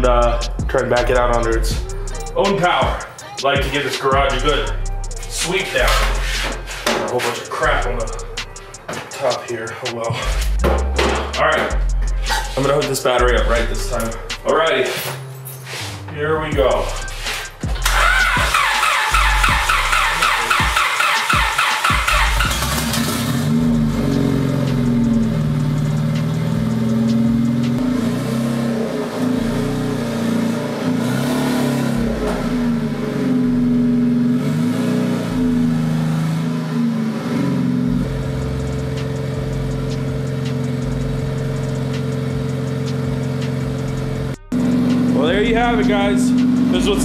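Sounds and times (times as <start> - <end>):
car engine revving and idling: 4.0 - 8.9, 10.2 - 14.5, 16.5 - 47.0.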